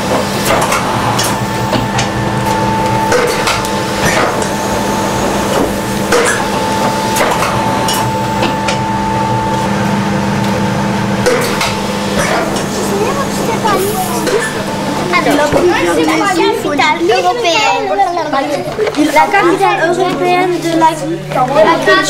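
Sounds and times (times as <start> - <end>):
high whine: 0.0 - 22.0
machine hum: 0.0 - 22.0.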